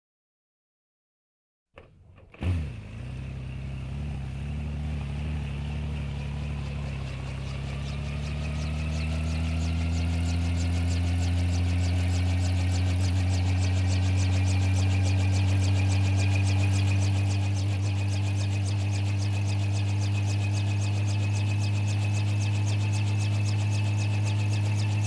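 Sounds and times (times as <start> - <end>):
helicopter turbine whine: 2.6 - 25.0
low steady drone: 2.6 - 25.0
rotor beating: 2.8 - 25.0.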